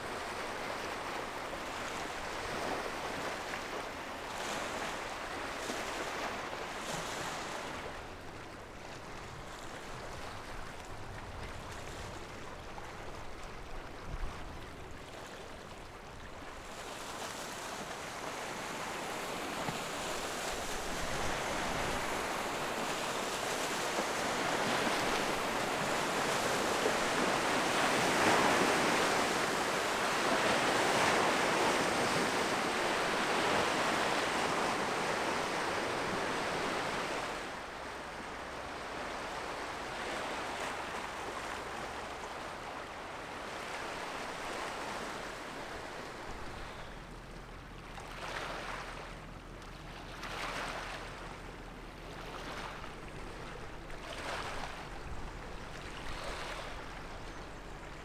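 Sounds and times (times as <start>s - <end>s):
river water washing against shore: 0.0s - 46.9s, 47.7s - 57.6s
small waves breaking: 0.0s - 58.0s.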